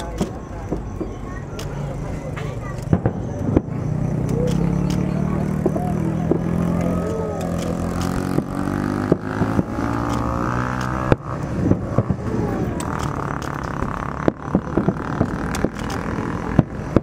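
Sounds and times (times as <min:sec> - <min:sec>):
engine running steadily: 0:00.0 - 0:17.0
sharp cracks or pops: 0:02.8 - 0:17.0.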